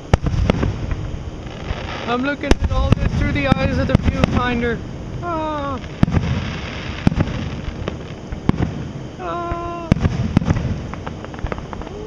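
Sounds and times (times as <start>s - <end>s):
fireworks bangs: 0.0s - 12.0s
fireworks crackles: 0.0s - 12.0s.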